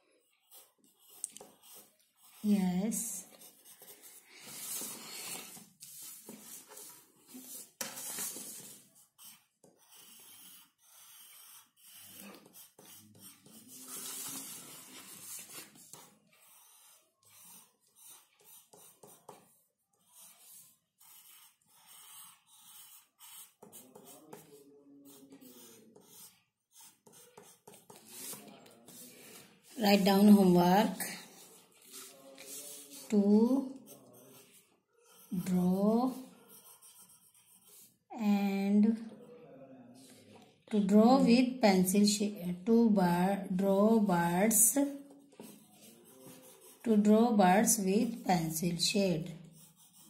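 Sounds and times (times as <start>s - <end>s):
pencil scratching on paper: 0.0s - 38.7s, 40.8s - 50.0s.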